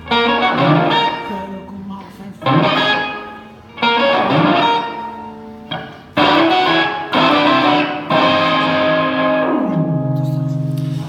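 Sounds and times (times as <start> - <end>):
electric guitar chords ringing: 0.0 - 11.0.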